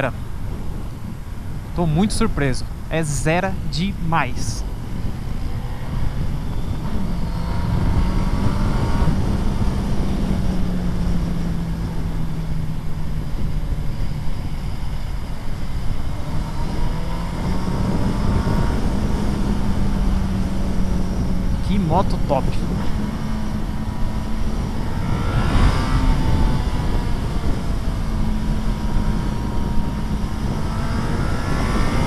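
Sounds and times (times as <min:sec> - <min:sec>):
motorcycle engine at speed: 0:04.6 - 0:32.0.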